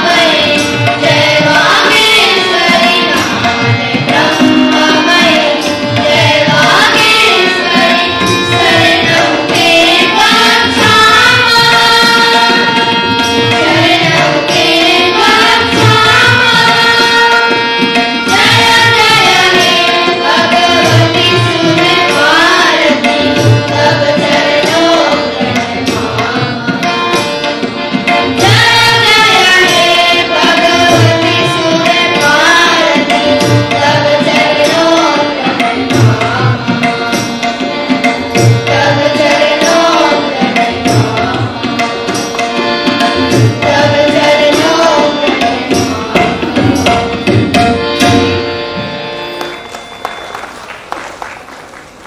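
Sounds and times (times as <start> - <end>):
children singing: 0.0 - 48.4.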